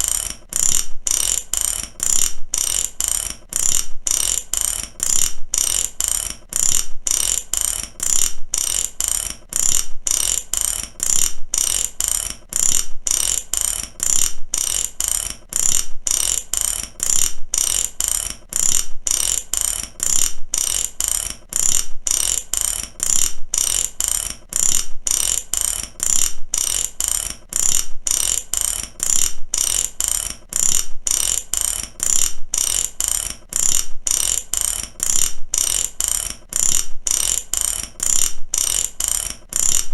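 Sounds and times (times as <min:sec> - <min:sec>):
ratchet wrench clicking: 0:00.0 - 0:39.9.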